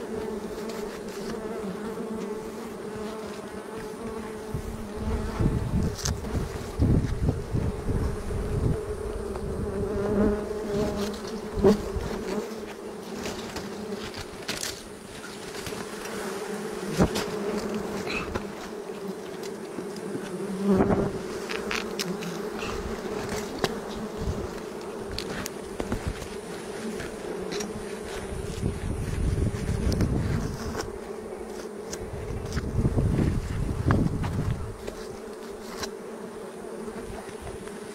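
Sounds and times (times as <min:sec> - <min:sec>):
bees buzzing: 0:00.0 - 0:37.9.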